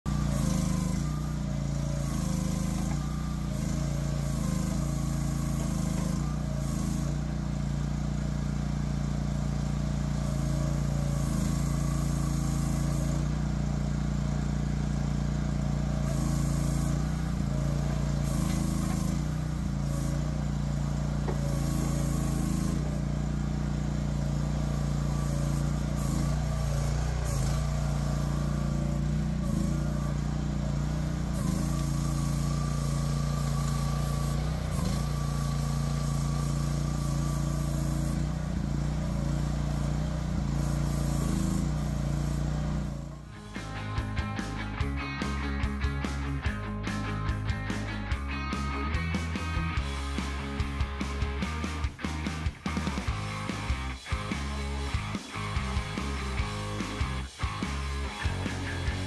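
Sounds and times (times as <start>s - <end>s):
excavator engine running: 0.0s - 59.0s.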